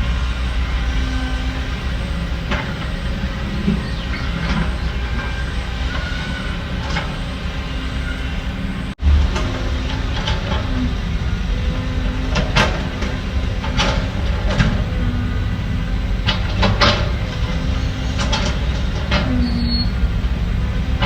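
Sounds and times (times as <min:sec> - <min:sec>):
heavy diesel machinery rumbling: 0:00.0 - 0:21.0.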